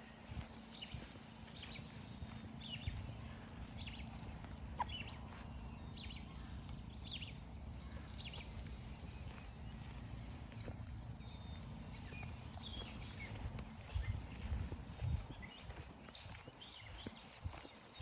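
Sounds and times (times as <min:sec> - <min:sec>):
footsteps on trail: 0:00.0 - 0:18.0
songbird chirping: 0:00.0 - 0:18.0.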